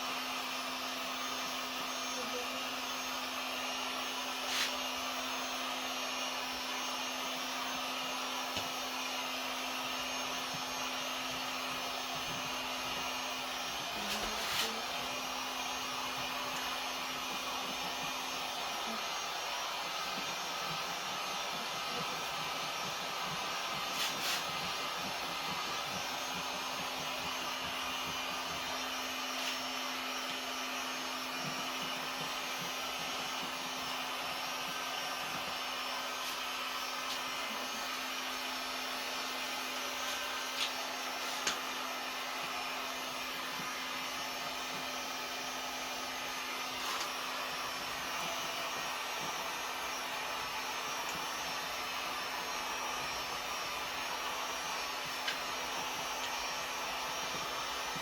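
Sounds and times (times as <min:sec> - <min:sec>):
heat gun blowing: 0:02.2 - 0:58.0.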